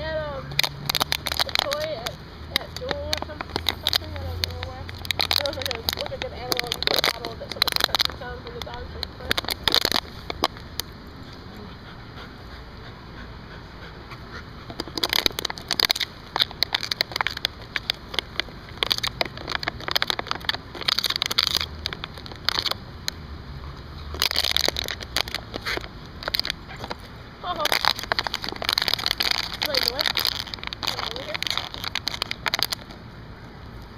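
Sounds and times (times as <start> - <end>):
plastic bottle crackling: 0.5 - 10.9, 14.7 - 23.2, 24.0 - 33.0.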